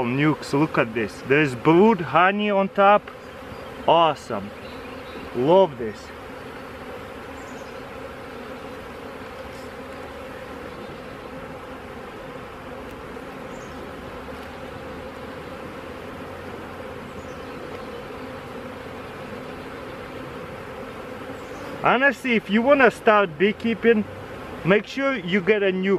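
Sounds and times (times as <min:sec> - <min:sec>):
honey bees buzzing: 0:00.0 - 0:25.9.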